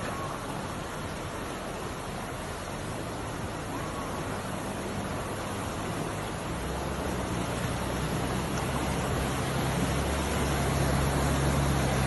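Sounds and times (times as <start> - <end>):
pickup truck engine drone: 0.0 - 12.0
rushing river water: 0.0 - 12.0.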